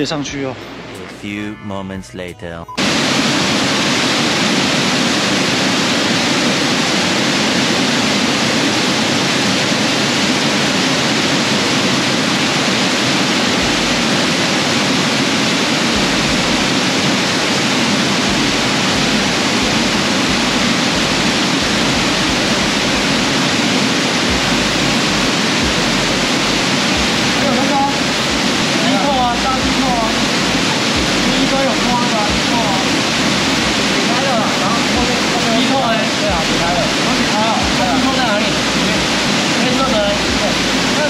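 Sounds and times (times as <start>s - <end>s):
waterfall rushing: 2.8s - 41.0s.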